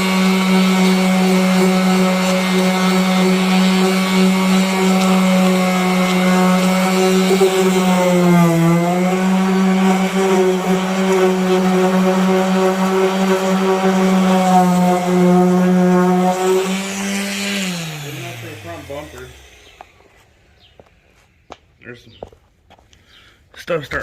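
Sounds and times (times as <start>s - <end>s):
power sander whining: 0.0s - 21.7s.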